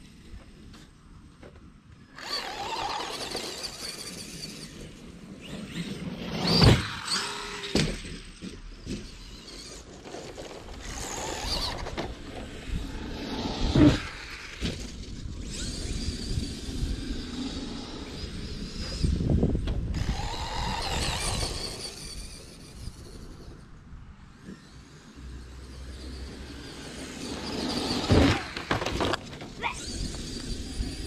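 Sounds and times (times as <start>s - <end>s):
electric rc car motors whining: 0.0s - 31.0s
rc cars thumping on landing: 2.2s - 23.6s, 26.7s - 31.0s.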